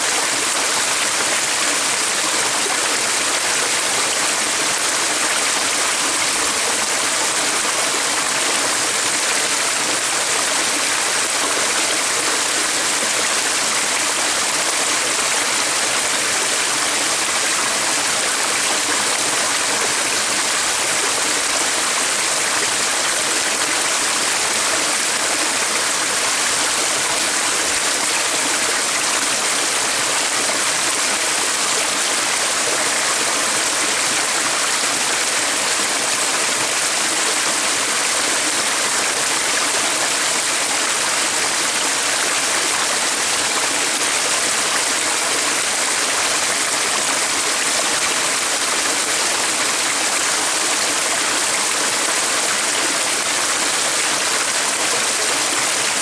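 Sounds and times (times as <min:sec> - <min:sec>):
stream of flowing water: 0:00.0 - 0:56.0.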